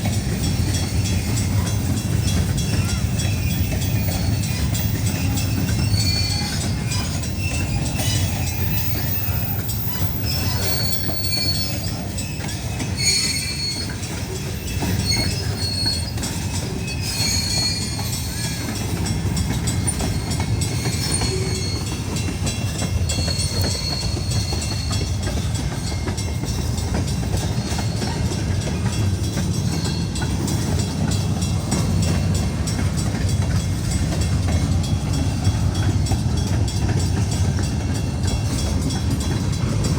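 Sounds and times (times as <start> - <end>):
train cars rumbling past: 0.0 - 39.9
train wheels squealing: 0.0 - 39.9.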